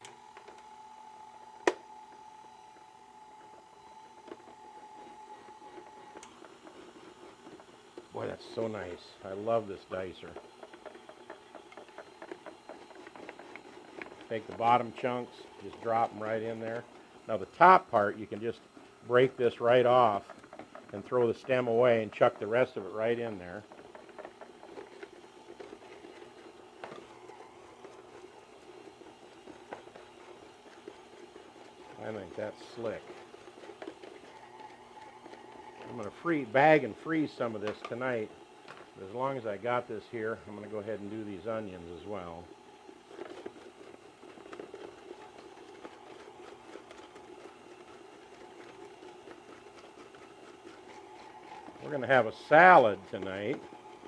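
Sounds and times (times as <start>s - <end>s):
stand mixer humming: 0.0s - 54.0s.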